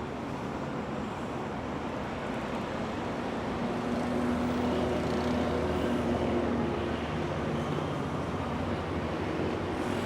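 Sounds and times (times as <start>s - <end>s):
road noise: 1.8s - 10.0s.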